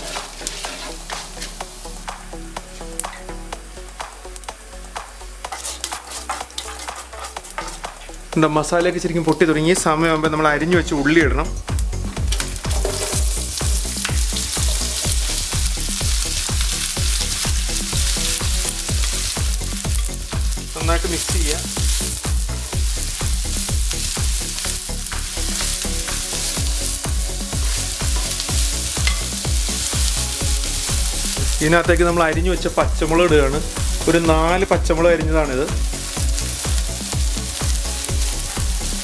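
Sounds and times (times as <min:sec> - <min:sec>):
onions sizzling in hot ghee: 0:00.0 - 0:39.0
soft background music with beat: 0:00.0 - 0:39.0.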